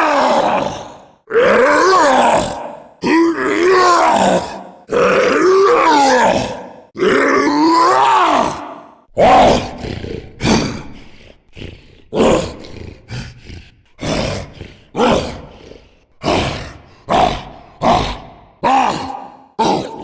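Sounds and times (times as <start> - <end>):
cartoon monster roars: 0.0 - 20.0.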